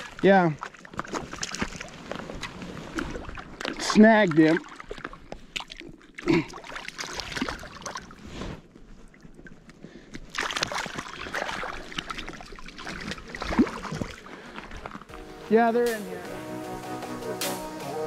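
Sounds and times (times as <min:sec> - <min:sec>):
shallow water splashing: 0:00.0 - 0:15.3.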